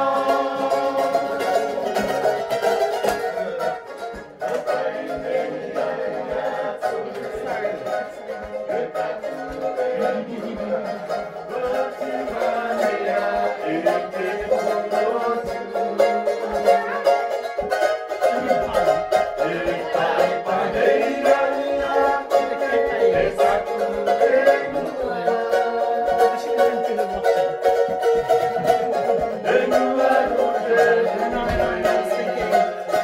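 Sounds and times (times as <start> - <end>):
ukuleles strumming: 0.0 - 33.0.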